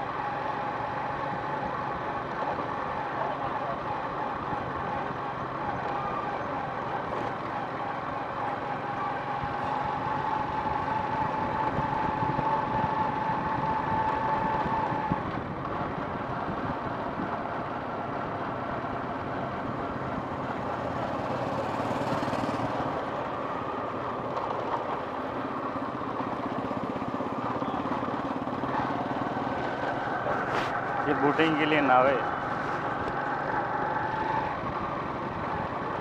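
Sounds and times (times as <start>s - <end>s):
motorbike engine and road noise: 0.0s - 36.0s.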